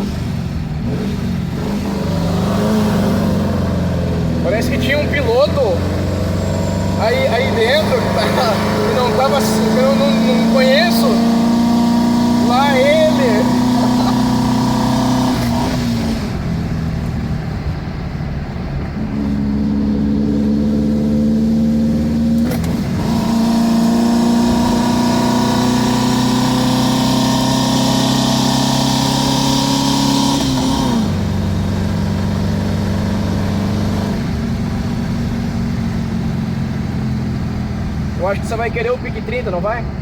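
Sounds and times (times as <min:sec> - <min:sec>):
car engine pulling under load: 0:00.0 - 0:40.0.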